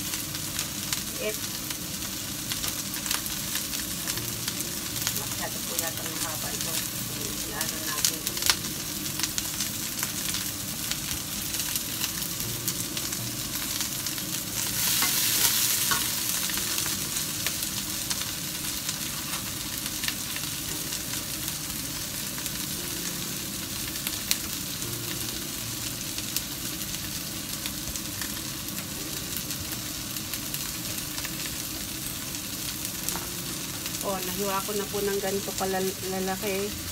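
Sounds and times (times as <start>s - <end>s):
garlic and onion sizzling in oil: 0.0s - 36.9s.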